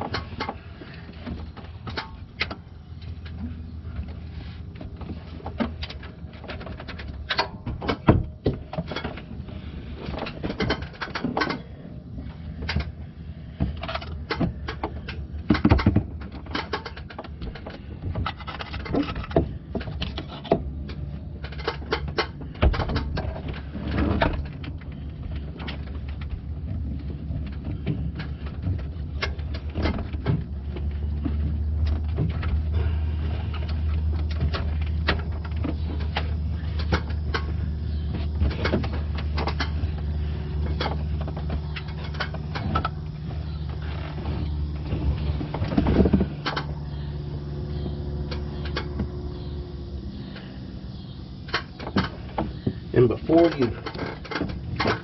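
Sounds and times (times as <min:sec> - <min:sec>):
tools clicking and clattering: 0:00.0 - 0:50.6
steady low hum: 0:00.0 - 0:55.0.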